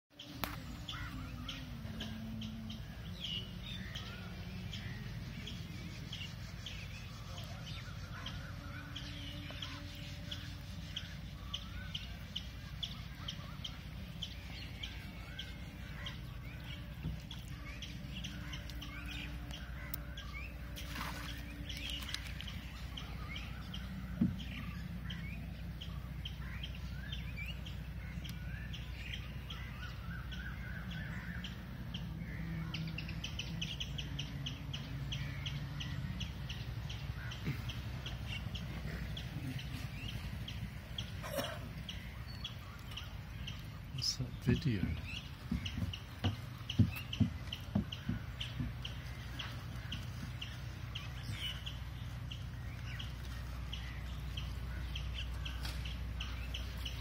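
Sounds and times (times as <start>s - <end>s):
small birds chirping: 0.1s - 57.0s
steady low rumble: 0.2s - 57.0s.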